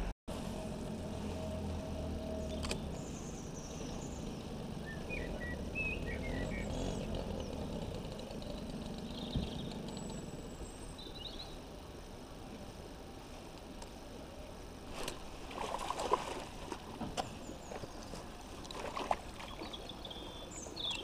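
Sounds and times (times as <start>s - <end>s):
low outdoor rumble: 0.0s - 21.0s
songbirds chirping: 0.4s - 13.2s, 14.4s - 21.0s.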